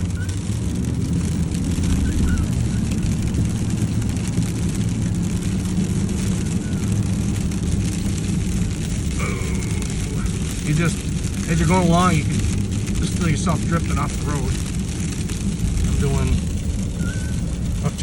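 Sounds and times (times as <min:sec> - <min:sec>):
freezing rain hitting truck: 0:00.0 - 0:18.0
truck engine and tyres drone: 0:00.0 - 0:18.0.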